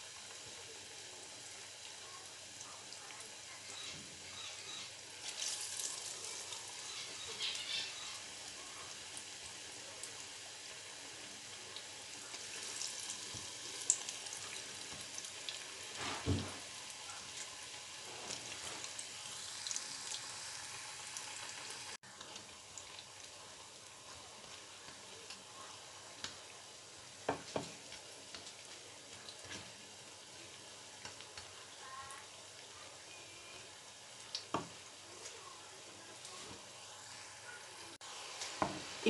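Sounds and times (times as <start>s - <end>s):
food deep-frying in oil: 0.0s - 39.0s.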